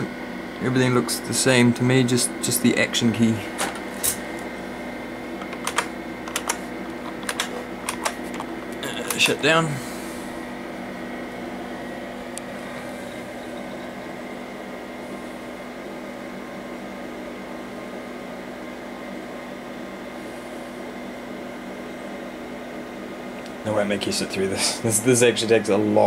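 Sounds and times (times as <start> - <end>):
computer hum and fan whir: 0.0 - 26.0.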